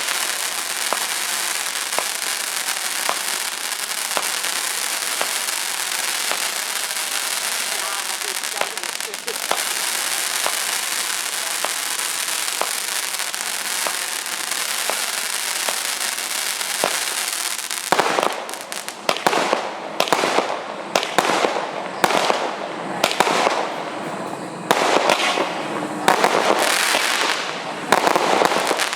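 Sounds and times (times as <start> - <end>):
firework bangs with hiss: 0.0 - 28.9
firework hissing crackle: 0.0 - 28.9.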